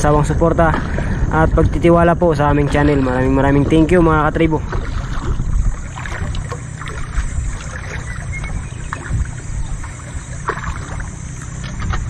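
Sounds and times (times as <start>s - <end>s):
water against boat hull: 0.0s - 12.0s
wind: 0.0s - 12.0s.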